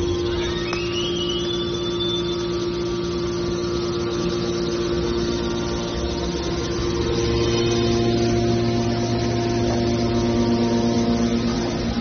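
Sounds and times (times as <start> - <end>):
baler machine hum: 0.0 - 12.0
high machine whine: 0.0 - 12.0.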